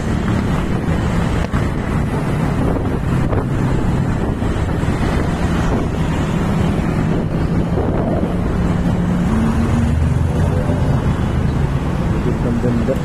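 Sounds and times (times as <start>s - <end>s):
wind buffeting microphone: 0.0s - 12.4s
road rumble: 0.0s - 13.0s
vehicle engine hum: 0.0s - 13.0s.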